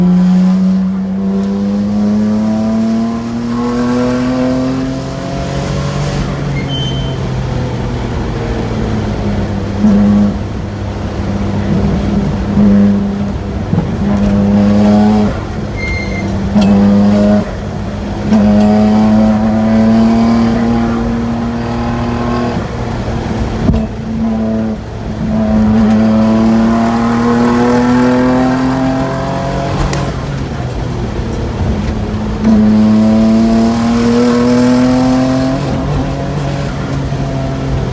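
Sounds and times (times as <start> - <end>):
car exhaust accelerating: 0.0 - 37.9.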